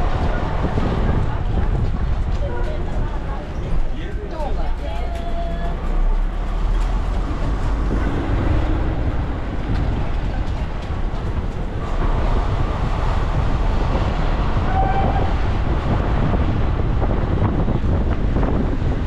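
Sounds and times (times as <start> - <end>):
street noise: 0.0 - 19.0
wind buffeting microphone: 0.0 - 19.0.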